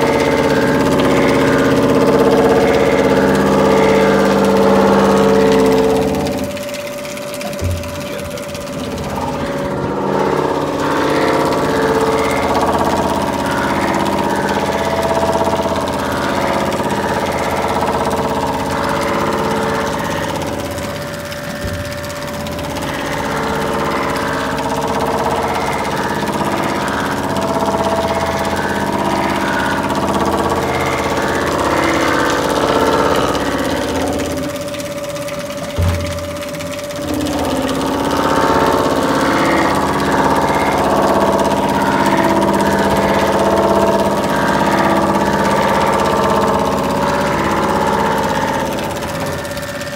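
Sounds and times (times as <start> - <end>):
resurfacing machine humming: 0.0 - 49.9.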